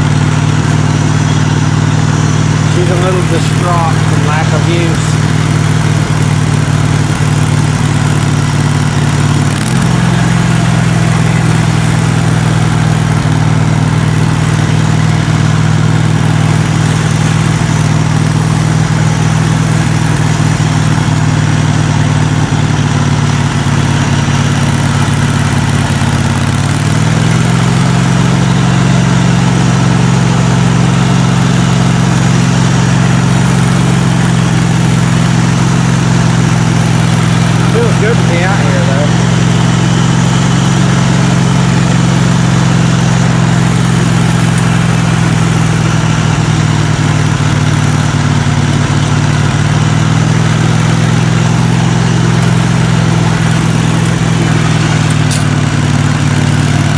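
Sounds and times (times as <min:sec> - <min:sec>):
riding mower engine running: 0:00.0 - 0:56.9.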